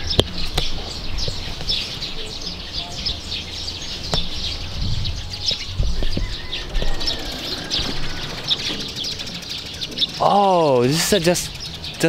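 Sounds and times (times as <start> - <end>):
steady low rumble: 0.0 - 10.2
birds chirping: 0.0 - 12.0.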